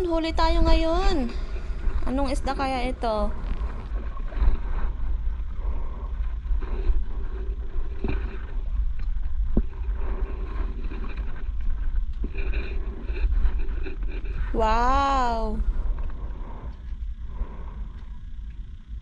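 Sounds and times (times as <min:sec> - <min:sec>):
faint engine hum: 0:00.0 - 0:19.0
wind rumbling on microphone: 0:00.0 - 0:19.0.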